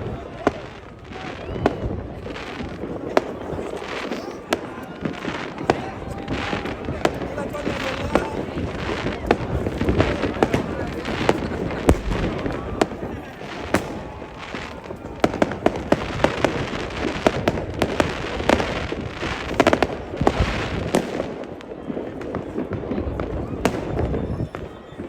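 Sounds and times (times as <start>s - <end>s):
fireworks bangs and cracks: 0.0s - 25.0s.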